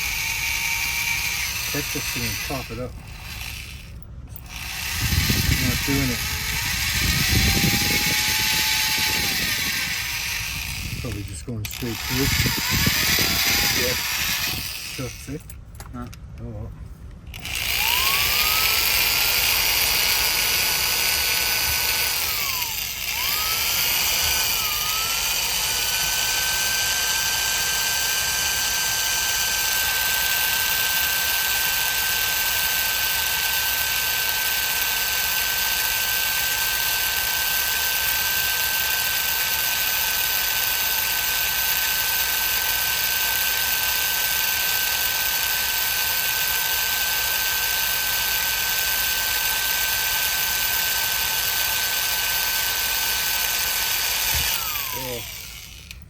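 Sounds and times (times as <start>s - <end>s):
power drill whining: 0.0s - 15.6s, 17.3s - 56.0s.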